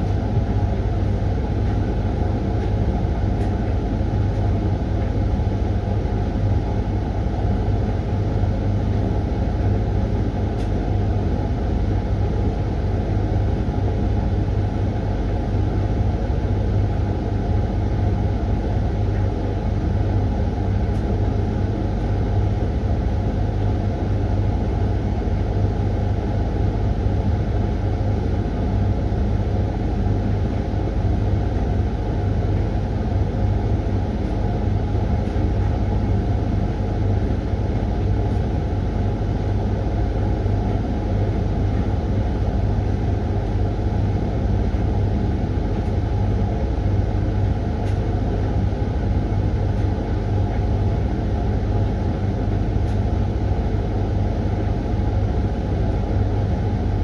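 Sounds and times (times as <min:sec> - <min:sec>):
washing machine hum and rumble: 0:00.0 - 0:57.0.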